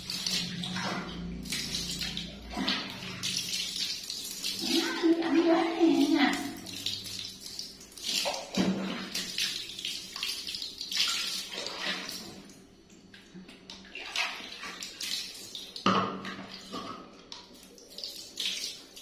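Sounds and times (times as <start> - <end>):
water splashing on tiled floor: 0.0 - 12.6, 13.7 - 19.0.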